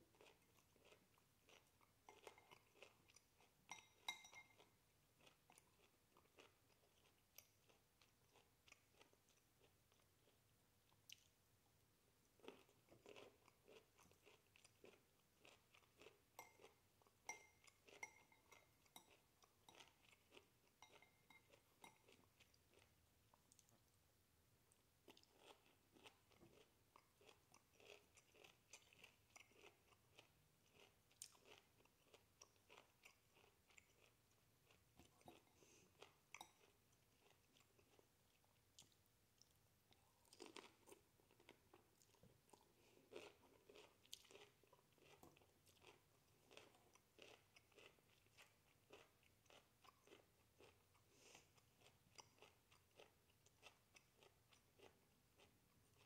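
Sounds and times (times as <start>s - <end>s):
person chewing broccoli: 0.1s - 11.5s, 12.2s - 24.0s, 24.7s - 56.0s.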